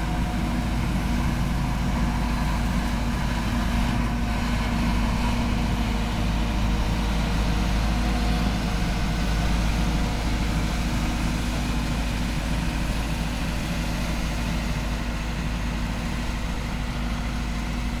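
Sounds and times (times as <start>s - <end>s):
heavy engine humming: 0.0s - 18.0s.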